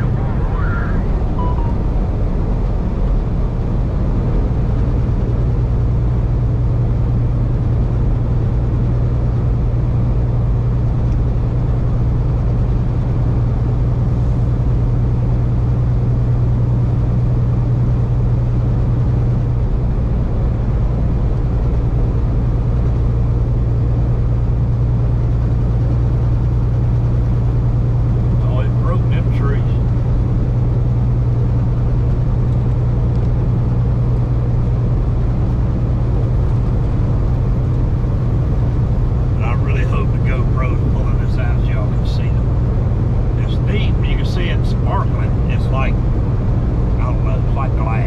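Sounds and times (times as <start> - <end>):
truck engine and tyre drone: 0.0 - 48.0.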